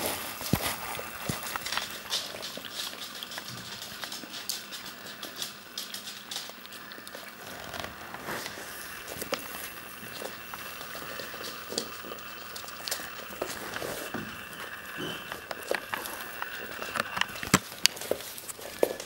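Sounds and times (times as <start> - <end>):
puppy claws clicking on hardwood: 0.4 - 19.0.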